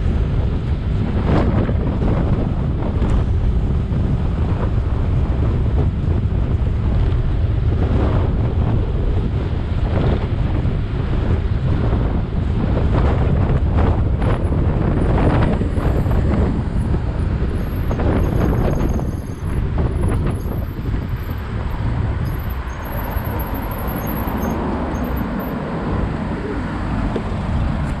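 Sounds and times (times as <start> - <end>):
city car traffic: 0.0 - 28.0
wind buffeting microphone: 0.0 - 28.0.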